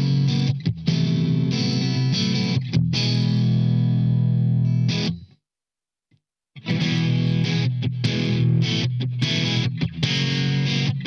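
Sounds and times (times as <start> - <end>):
distorted electric guitar: 0.0 - 5.3, 6.6 - 11.0.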